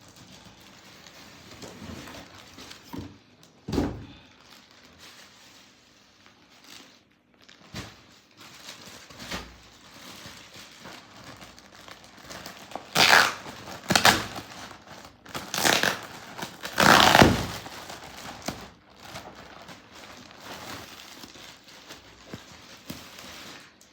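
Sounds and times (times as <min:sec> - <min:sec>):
packaging crinkling and tearing: 0:00.0 - 0:23.9.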